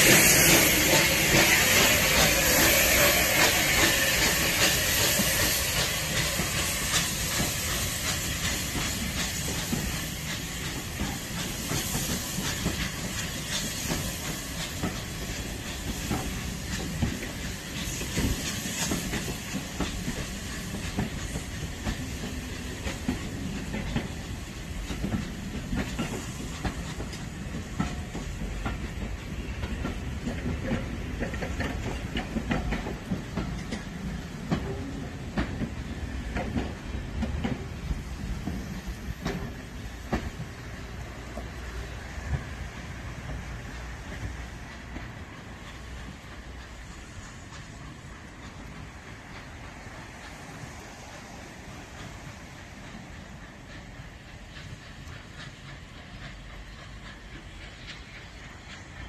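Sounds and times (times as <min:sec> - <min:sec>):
steam hiss: 0:00.0 - 0:59.0
train wheels clicking over rail joints: 0:00.0 - 0:59.0.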